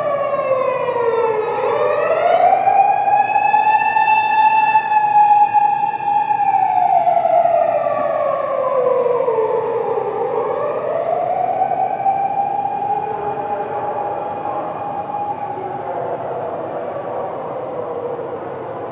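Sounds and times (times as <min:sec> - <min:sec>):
emergency vehicle siren wailing: 0:00.0 - 0:18.9.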